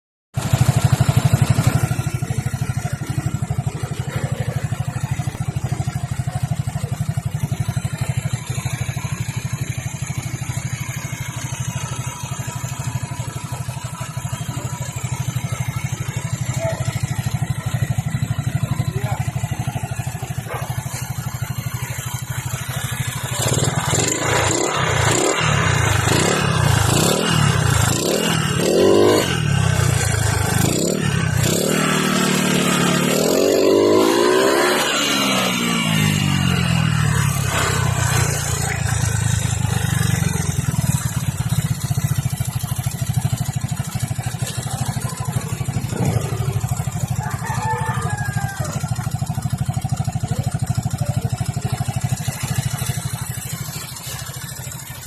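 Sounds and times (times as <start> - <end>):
scooter engine idling: 0.4 - 55.0
scooter engine revving: 0.4 - 55.0.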